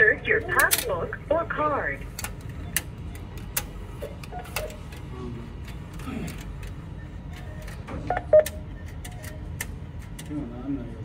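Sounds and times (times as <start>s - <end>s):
cash machine humming: 0.0s - 11.0s.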